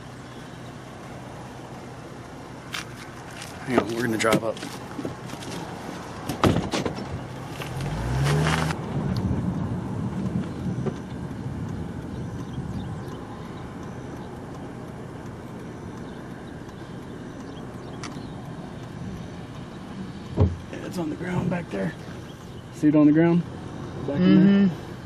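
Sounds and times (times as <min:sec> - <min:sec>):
car engine revving: 0:00.0 - 0:25.0
road noise while driving: 0:00.0 - 0:25.0.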